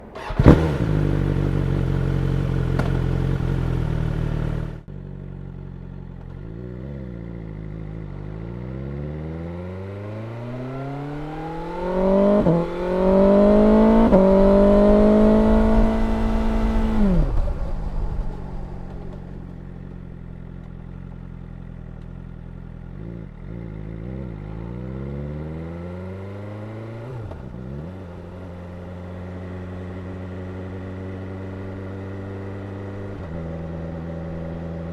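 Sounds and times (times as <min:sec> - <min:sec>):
motorcycle engine revving through gears: 0:00.0 - 0:34.9.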